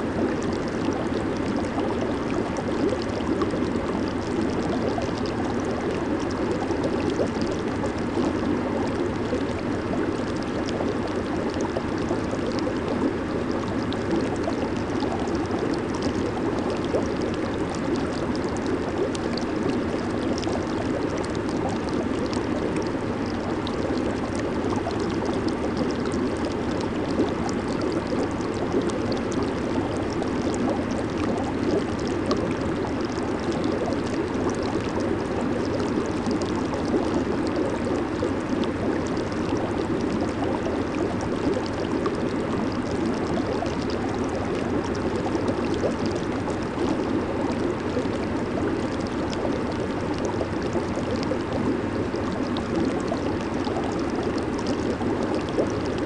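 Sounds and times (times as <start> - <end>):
hot tub water churning and bubbling: 0.0 - 56.0.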